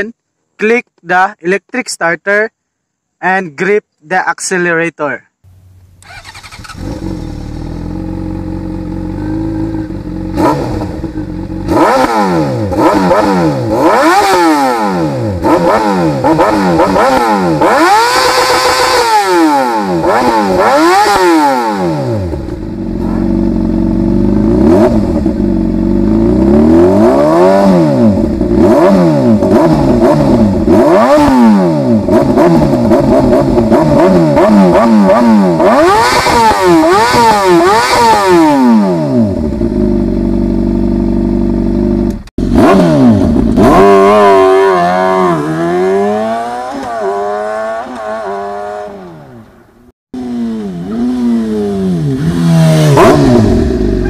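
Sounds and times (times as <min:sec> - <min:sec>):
small motorcycle engine revving: 0:06.0 - 0:49.5, 0:50.2 - 0:54.0.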